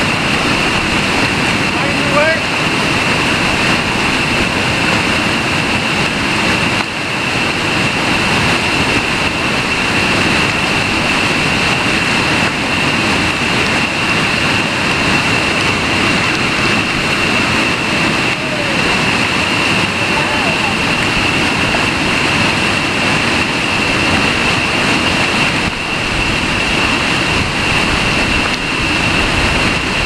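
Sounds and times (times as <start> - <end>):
river rapids rushing: 0.0 - 30.0
steady high-pitched tone: 0.0 - 30.0.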